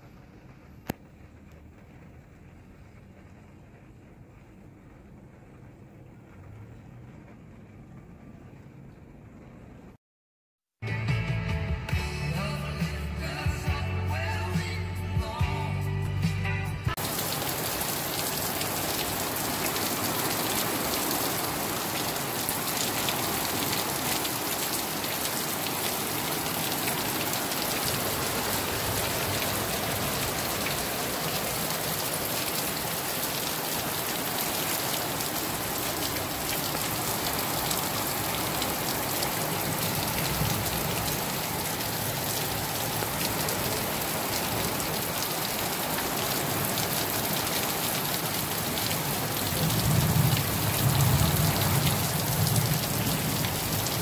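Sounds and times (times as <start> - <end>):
heavy rain on pavement: 0.0 - 10.0, 16.9 - 54.0.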